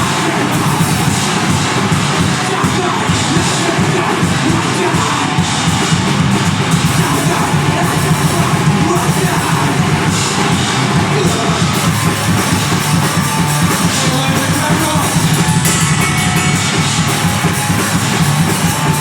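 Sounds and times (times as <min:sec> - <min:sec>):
distorted guitars: 0:00.0 - 0:19.0
fast drumming: 0:00.0 - 0:19.0.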